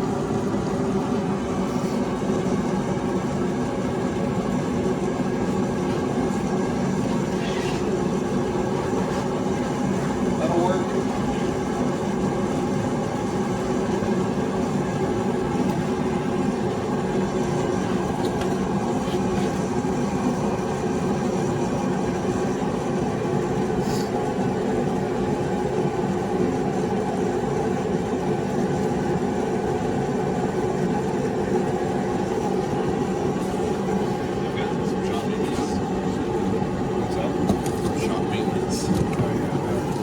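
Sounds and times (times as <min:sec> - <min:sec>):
space heater droning: 0:00.0 - 0:40.0.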